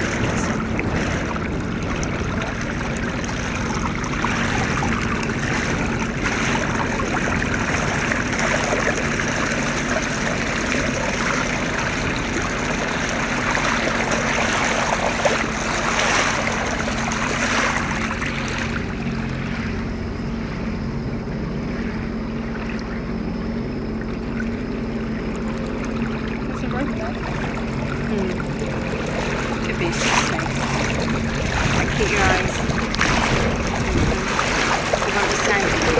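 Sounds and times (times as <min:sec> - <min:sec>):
water trickling and splashing: 0:00.0 - 0:20.7, 0:23.8 - 0:35.9
low hum: 0:00.0 - 0:35.9.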